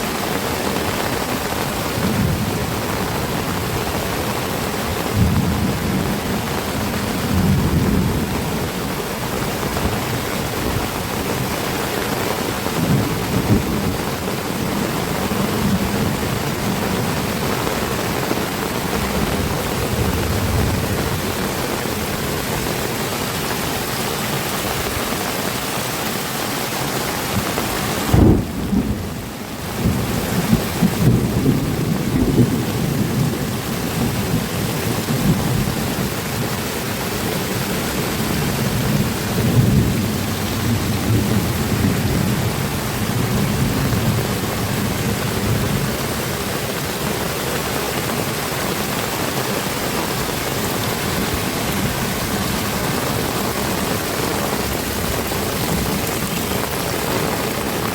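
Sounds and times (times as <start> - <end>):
heavy rain falling: 0.0 - 57.9
thunderclap and rumbling: 0.2 - 11.6, 12.6 - 22.9, 27.2 - 47.0, 49.2 - 57.9.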